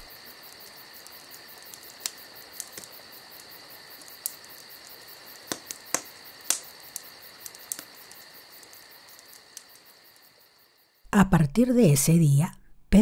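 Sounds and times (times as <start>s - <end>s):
campfire crackling: 0.0s - 11.1s
crickets chirping: 0.0s - 12.7s.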